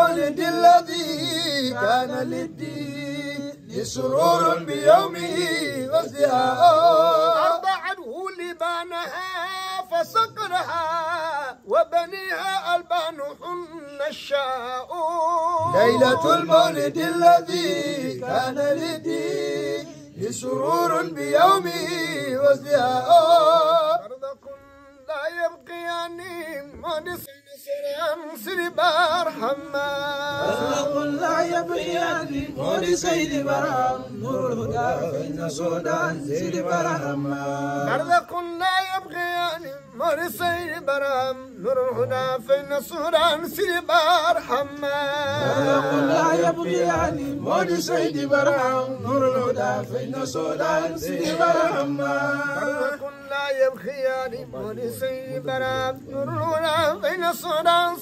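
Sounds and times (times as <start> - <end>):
men chanting unaccompanied: 0.0 - 58.0.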